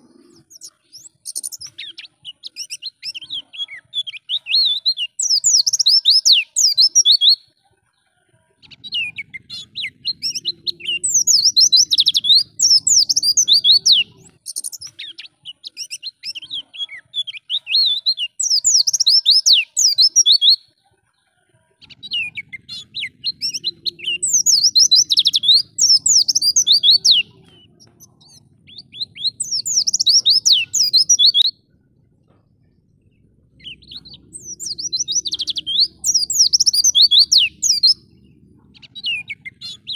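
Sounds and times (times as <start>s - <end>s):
bird singing high quick chirps: 0.0s - 7.5s, 8.6s - 20.7s, 21.8s - 31.7s, 33.0s - 39.9s.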